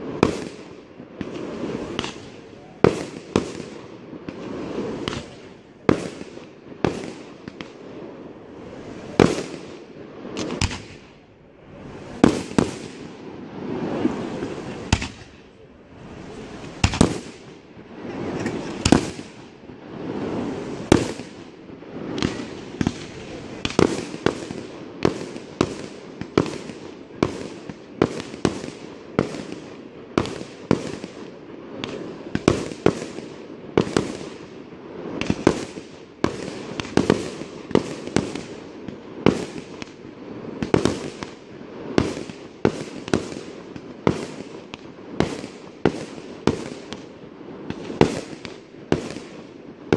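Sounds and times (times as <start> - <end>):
firework bangs: 0.0 - 49.9
firework crackle and rumble: 0.0 - 49.9.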